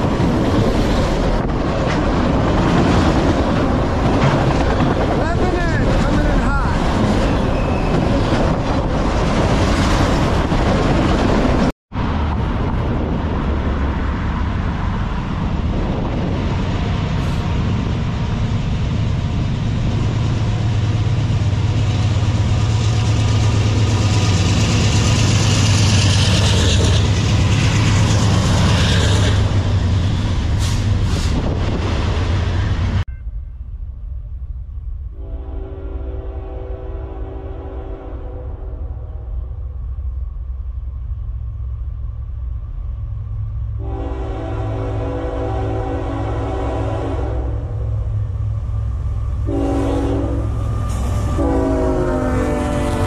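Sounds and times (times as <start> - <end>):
train wheels on rail: 0.0 - 33.0, 39.4 - 53.0
diesel locomotive engine: 0.0 - 53.0.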